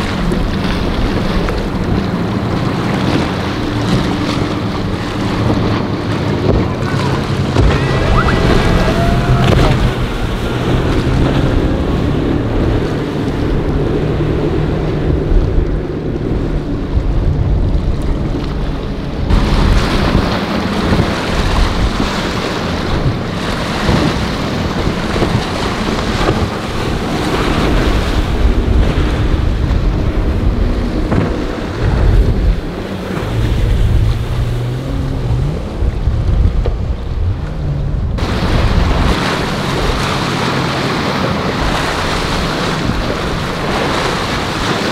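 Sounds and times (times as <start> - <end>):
outboard engine drone: 0.0 - 44.9
rush of wake and waves: 0.0 - 44.9
wind on microphone: 0.0 - 44.9.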